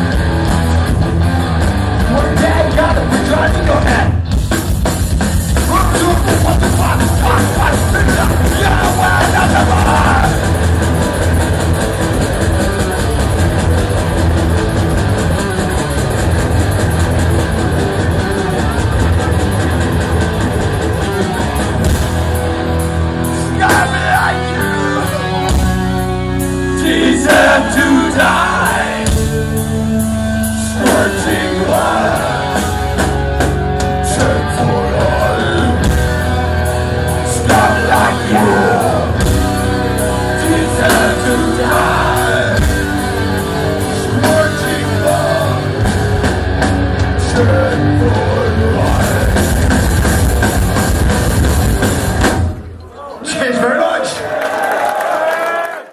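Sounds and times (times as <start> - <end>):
distorted electric guitars: 0.0 - 52.8
bass guitar: 0.0 - 52.9
drums: 0.0 - 53.0.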